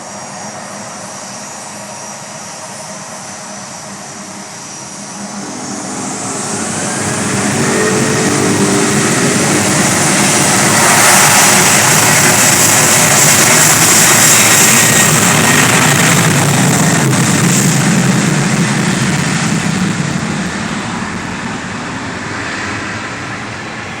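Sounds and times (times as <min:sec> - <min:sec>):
jet engine whine falling in pitch: 0:00.0 - 0:24.0
jet engines roaring: 0:00.0 - 0:24.0.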